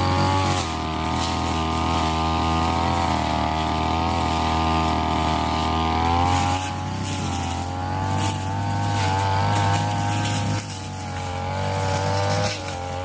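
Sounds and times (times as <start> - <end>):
brush cutter engine running: 0.0 - 13.0.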